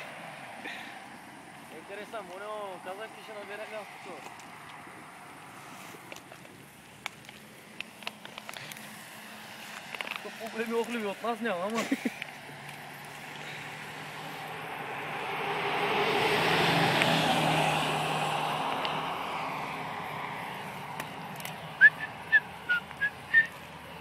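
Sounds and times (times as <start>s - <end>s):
motor vehicle passing by: 0.0s - 24.0s.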